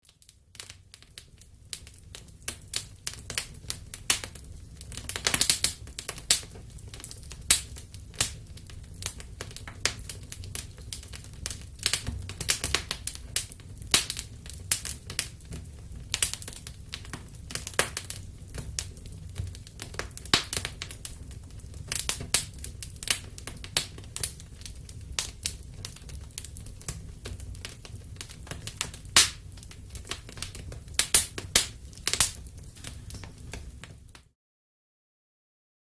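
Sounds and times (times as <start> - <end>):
fire crackling and popping: 0.0 - 34.3
low rumble of flames: 0.1 - 34.2.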